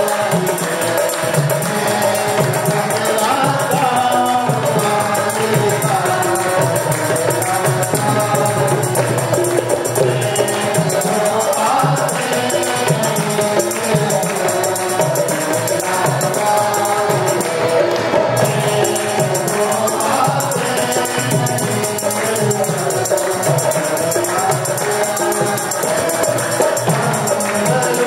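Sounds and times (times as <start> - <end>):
hand clapping: 0.0 - 28.0
hand drum: 0.0 - 28.0
harmonium melody: 0.0 - 28.0.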